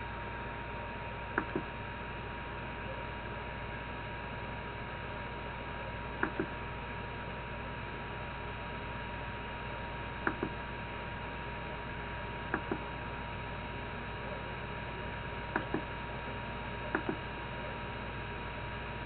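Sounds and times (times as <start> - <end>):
electrical hum with faint whine: 0.0 - 19.0.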